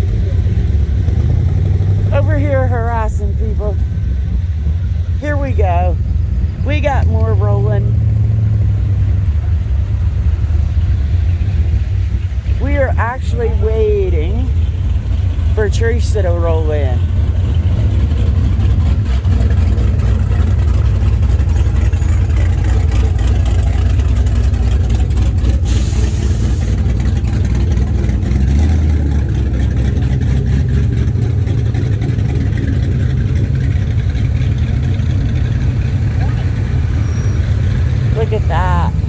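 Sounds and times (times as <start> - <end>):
car engines rumbling: 0.0 - 39.0.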